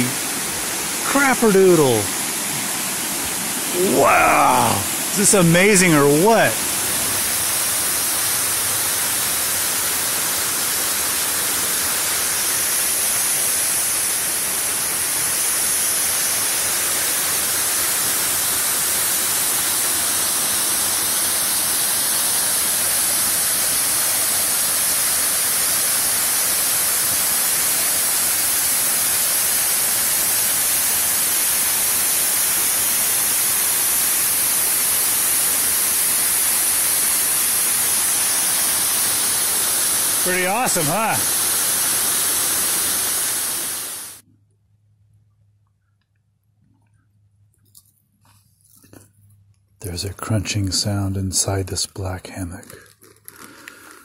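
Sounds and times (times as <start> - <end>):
water rushing: 0.0 - 44.2.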